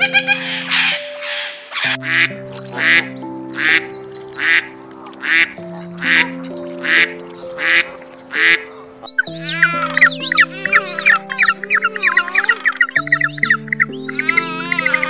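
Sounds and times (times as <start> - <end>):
background music: 0.0 - 15.0
duck quacking: 0.1 - 12.7.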